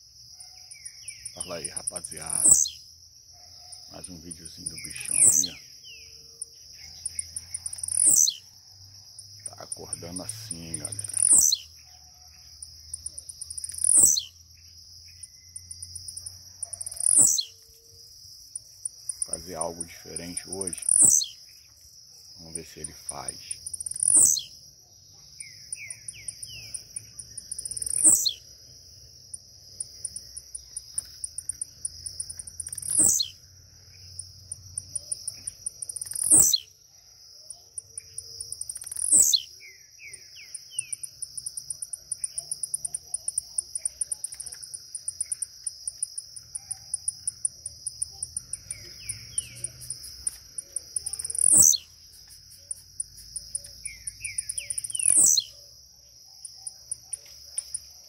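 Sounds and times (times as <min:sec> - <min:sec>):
high insect trill: 0:00.0 - 0:58.0.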